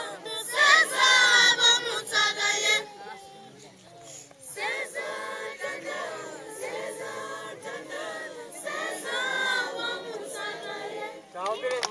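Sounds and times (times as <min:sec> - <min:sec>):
children's choir singing: 0:00.0 - 0:03.3, 0:04.4 - 0:11.5.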